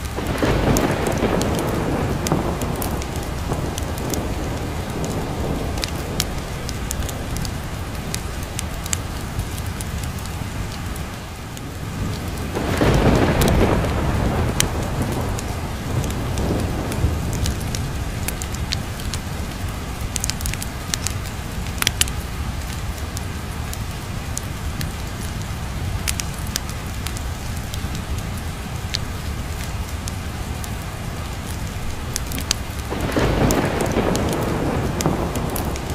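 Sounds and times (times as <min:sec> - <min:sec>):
low thunder rumble: 0:00.0 - 0:35.9
steady rain: 0:00.0 - 0:35.9
wood fire crackling and popping: 0:00.0 - 0:35.9.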